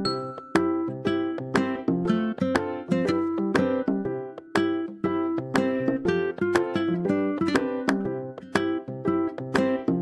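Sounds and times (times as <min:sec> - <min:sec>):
plucked string instrument tune: 0:00.0 - 0:10.0.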